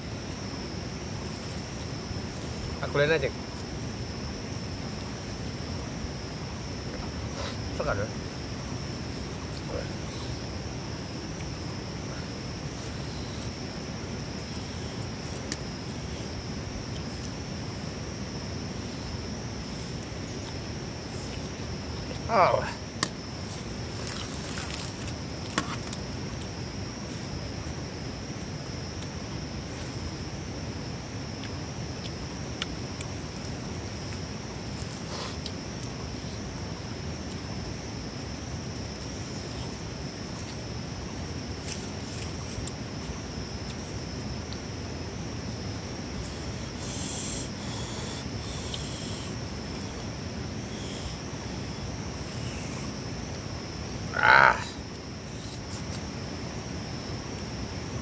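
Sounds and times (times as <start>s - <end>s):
steady high-pitched hum: 0.0s - 58.0s.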